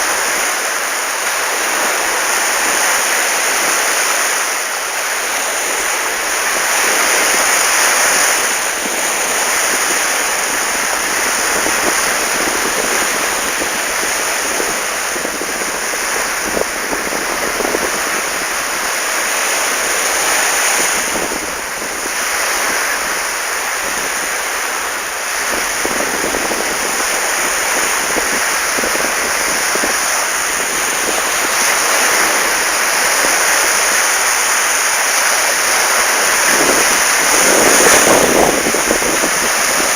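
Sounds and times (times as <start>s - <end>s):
sea waves breaking: 0.0s - 39.9s
wind buffeting microphone: 0.0s - 39.9s.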